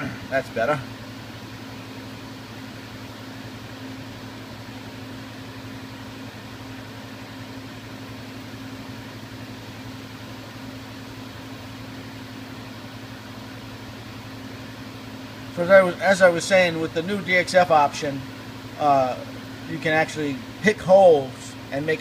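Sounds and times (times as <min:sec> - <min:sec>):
fan-like hiss of idle machinery: 0:00.0 - 0:22.0
low electrical hum: 0:00.0 - 0:22.0.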